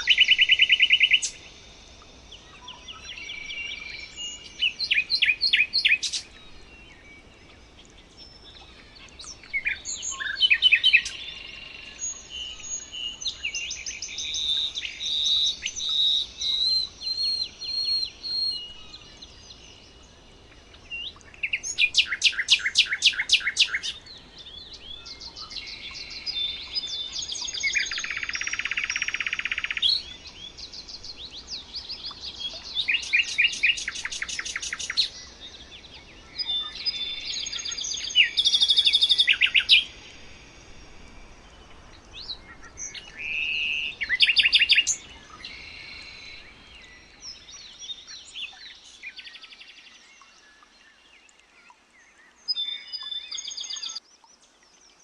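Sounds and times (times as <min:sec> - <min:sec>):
songbirds singing and calling: 0:00.0 - 0:55.0.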